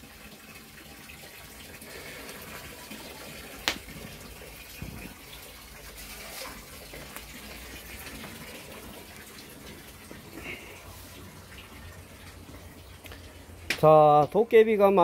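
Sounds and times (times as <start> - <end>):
wood fire crackling: 1.9 - 14.4.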